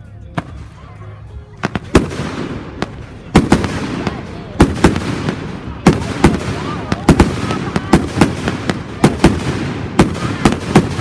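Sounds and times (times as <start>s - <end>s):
voices in background: 0.0s - 11.0s
fireworks bangs: 1.6s - 11.0s.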